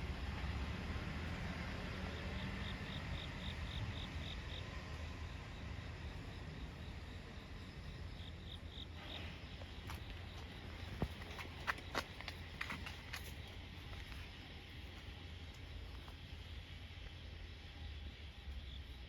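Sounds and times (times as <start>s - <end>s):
insect chirping: 1.2s - 19.0s.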